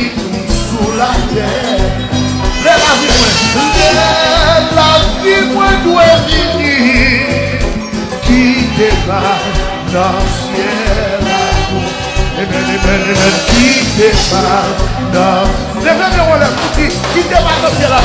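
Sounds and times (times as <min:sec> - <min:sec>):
person singing a hymn: 0:00.0 - 0:18.0
upbeat band accompaniment: 0:00.0 - 0:18.0.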